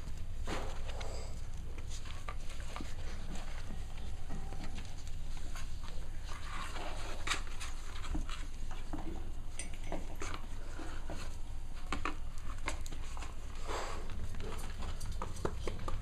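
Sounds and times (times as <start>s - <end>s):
puppy claws tapping and scrabbling: 0.0s - 13.5s, 14.1s - 16.0s
low steady hum: 0.0s - 16.0s.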